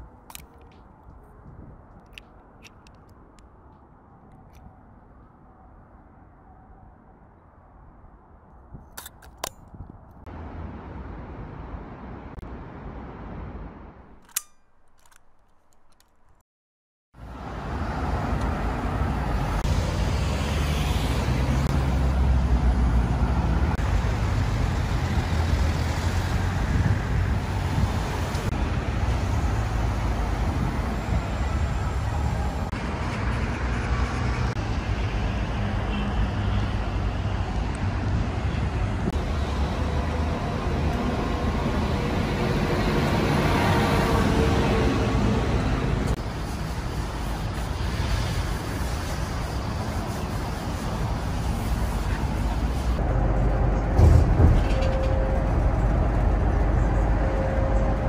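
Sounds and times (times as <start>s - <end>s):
cars passing on busy road: 0.0s - 16.4s, 17.2s - 58.0s.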